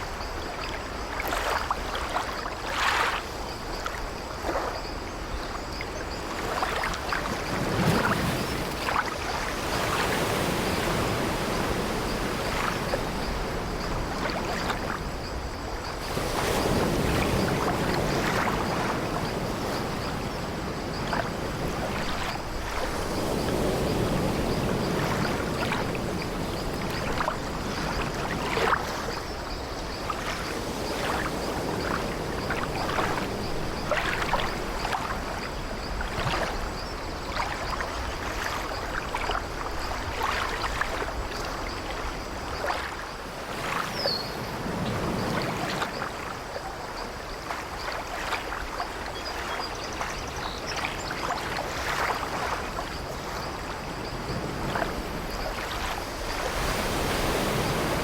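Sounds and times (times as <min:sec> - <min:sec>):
sea waves against ship: 0:00.0 - 0:58.0.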